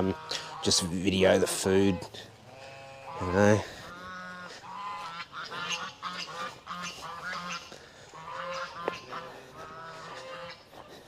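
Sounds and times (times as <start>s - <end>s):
goose honking: 0.0s - 0.9s, 1.5s - 11.0s.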